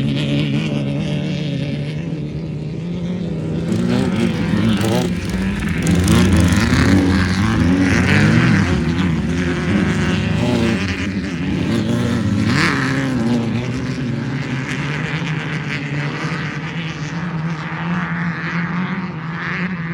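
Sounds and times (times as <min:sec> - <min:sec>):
race vehicle engine revving: 0:00.0 - 0:17.3.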